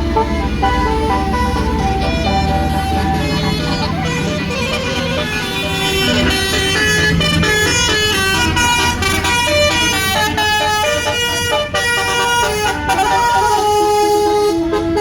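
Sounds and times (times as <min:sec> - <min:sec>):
bus engine running: 0:00.0 - 0:15.0
multi-tone air horn melody: 0:00.0 - 0:15.0.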